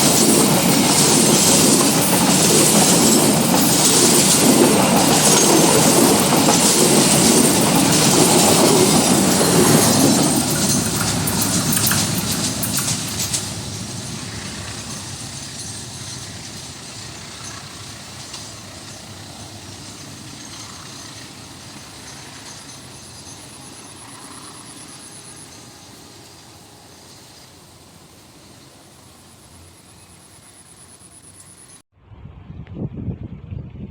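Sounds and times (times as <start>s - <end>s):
train wheel and rail noise: 0.0s - 31.8s.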